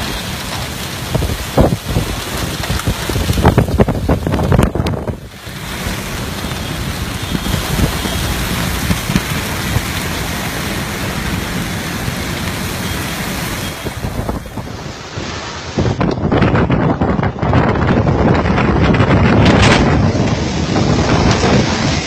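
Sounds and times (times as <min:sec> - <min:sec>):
gusts buffeting microphone: 0:00.0 - 0:22.0
wind and heavy rain rushing: 0:00.0 - 0:22.0.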